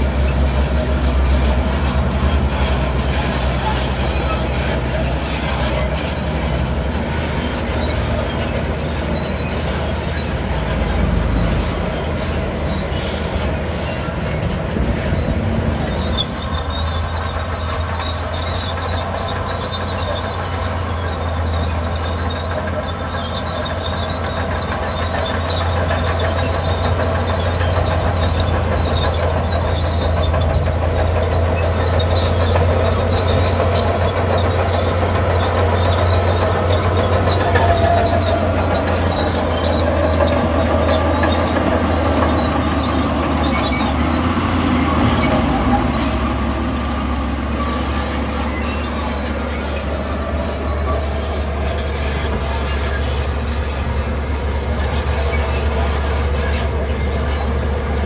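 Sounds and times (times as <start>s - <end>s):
bulldozer diesel engine: 0.0s - 58.0s
steel tracks squealing and clattering: 0.0s - 58.0s.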